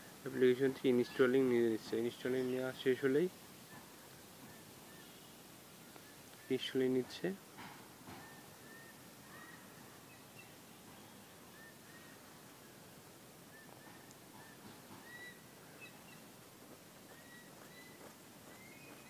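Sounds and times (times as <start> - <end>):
distant birds chirping: 0.0 - 19.0
faint background hiss: 0.0 - 19.0.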